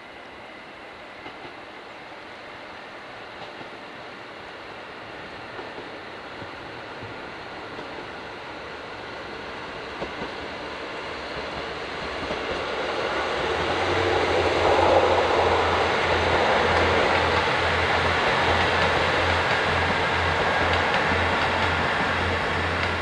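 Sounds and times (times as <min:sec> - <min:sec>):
diesel train passing: 0:00.0 - 0:23.0.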